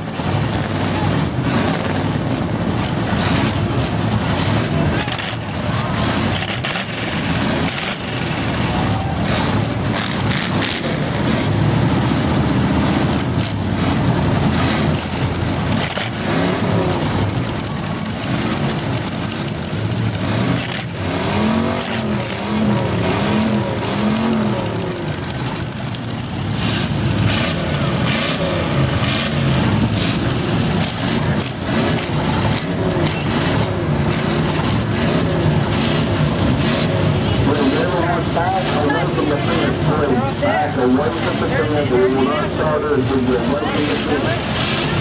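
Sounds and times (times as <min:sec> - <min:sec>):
car engine revving: 0:00.0 - 0:45.0
car engines idling: 0:00.0 - 0:45.0.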